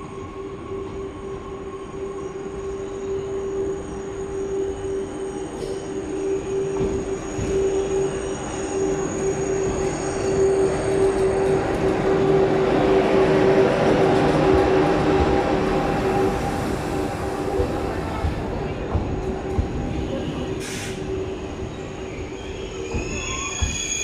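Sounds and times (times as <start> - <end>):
train whine: 0.0 - 24.0
train wheels rumbling: 4.6 - 24.0.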